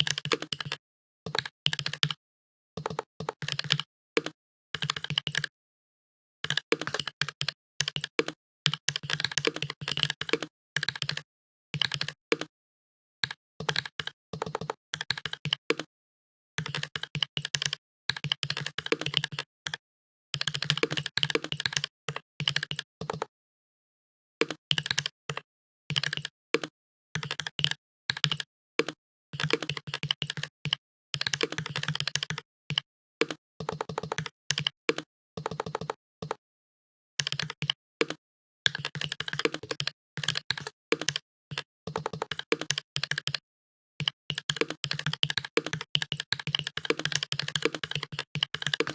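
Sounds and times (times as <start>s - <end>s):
computer keyboard typing: 0.0s - 2.2s, 2.8s - 5.5s, 6.4s - 11.2s, 13.2s - 15.9s, 16.6s - 19.8s, 20.4s - 23.3s, 24.4s - 36.4s, 37.2s - 43.4s, 44.0s - 48.9s.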